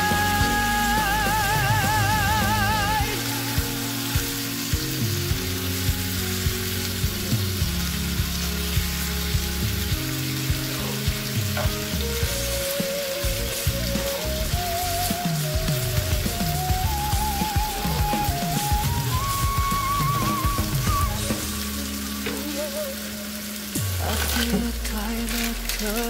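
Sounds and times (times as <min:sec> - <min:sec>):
meat and peppers sizzling in a pan: 0:00.0 - 0:26.0
quiet background music with a beat: 0:00.0 - 0:26.0.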